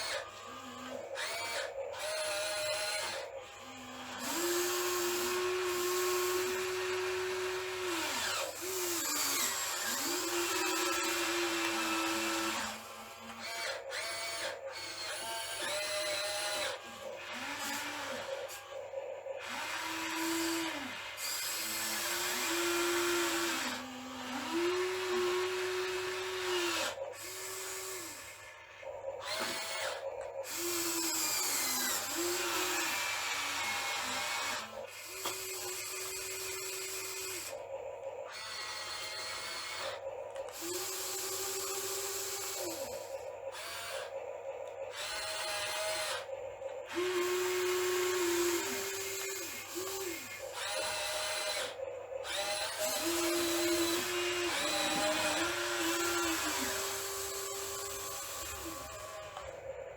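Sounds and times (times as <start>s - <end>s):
small electric motors whining: 0.0s - 59.9s.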